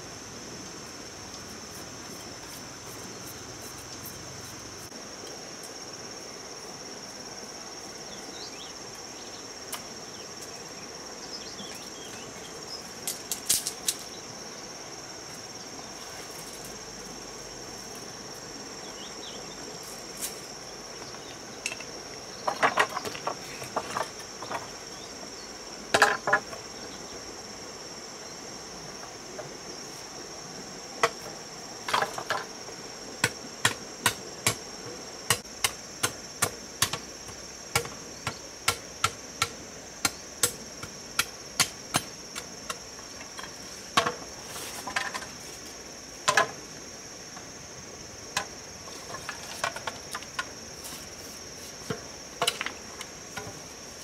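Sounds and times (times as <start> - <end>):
faint hiss: 0.0 - 54.0
insects chirping: 0.0 - 54.0.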